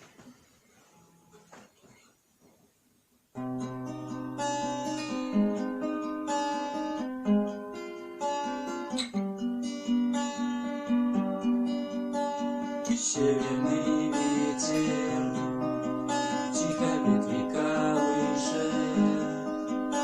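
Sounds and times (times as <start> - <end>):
acoustic guitar picking: 3.4 - 20.0.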